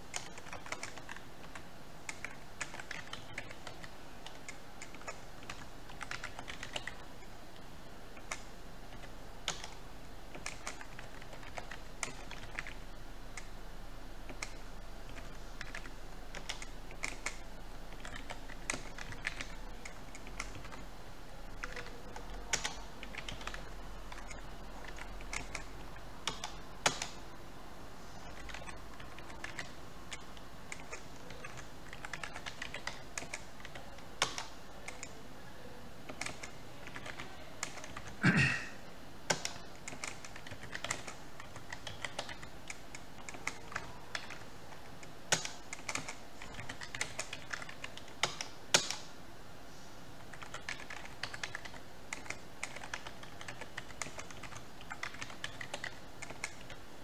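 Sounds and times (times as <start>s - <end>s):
computer keyboard typing: 0.0s - 13.6s, 14.2s - 27.4s, 28.2s - 35.2s, 36.0s - 38.3s, 39.2s - 49.1s, 50.2s - 57.0s.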